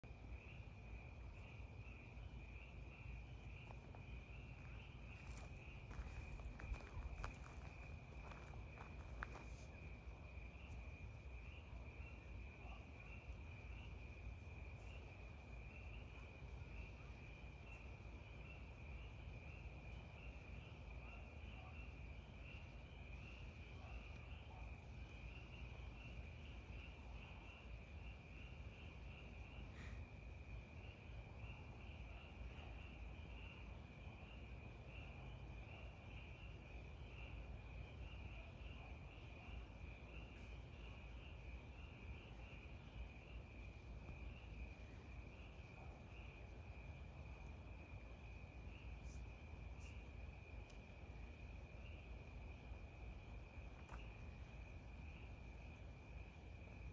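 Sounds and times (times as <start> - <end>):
crickets chirping: 0.0 - 56.9
low background rumble: 0.0 - 56.9.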